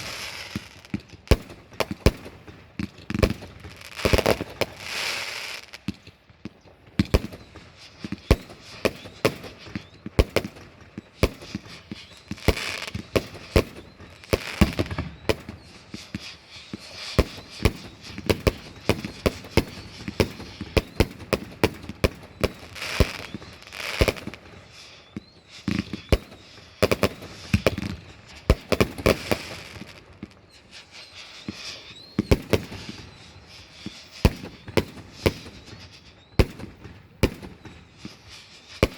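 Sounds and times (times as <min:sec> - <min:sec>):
faint firework whistles: 0:00.0 - 0:38.9
fireworks bangs and crackling: 0:00.0 - 0:38.9.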